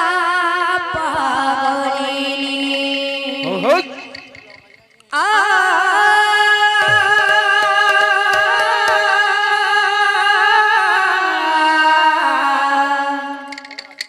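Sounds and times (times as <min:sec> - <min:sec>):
woman singing with vibrato: 0:00.0 - 0:04.0, 0:05.1 - 0:13.5.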